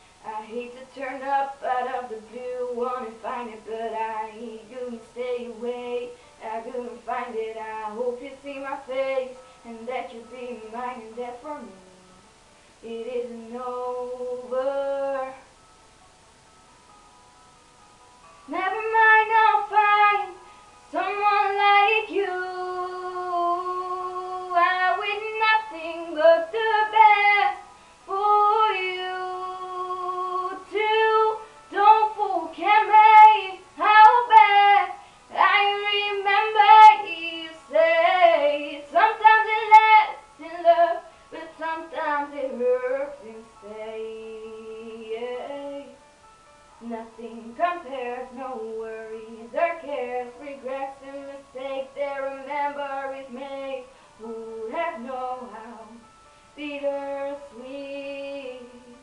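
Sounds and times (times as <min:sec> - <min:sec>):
girl singing a slow ballad: 0:00.0 - 0:59.0.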